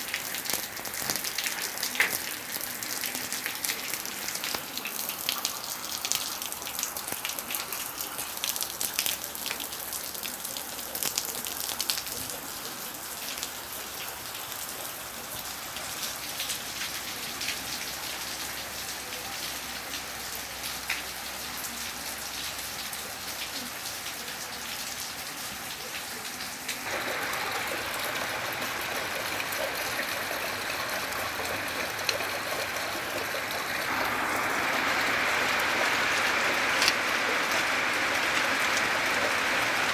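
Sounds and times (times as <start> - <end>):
raindrops ticking: 0.0 - 14.7, 19.9 - 23.5, 25.8 - 39.9
gentle rain: 0.0 - 39.9.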